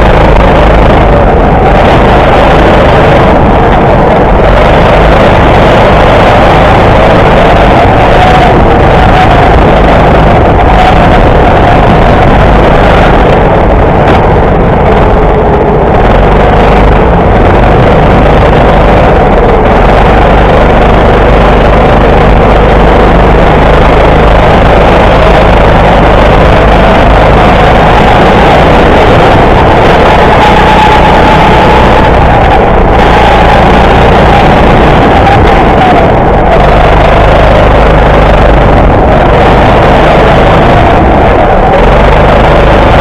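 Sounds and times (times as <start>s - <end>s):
go-kart motor running: 0.0s - 43.0s.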